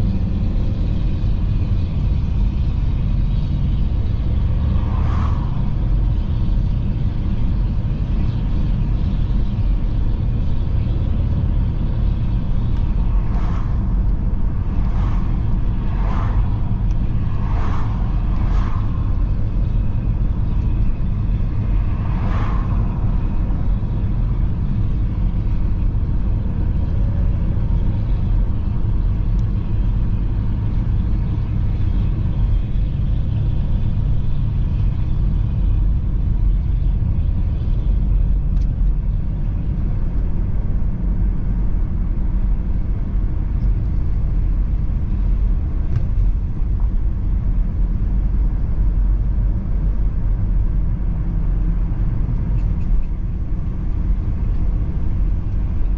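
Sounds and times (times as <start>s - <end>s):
car road and engine noise: 0.0s - 55.9s.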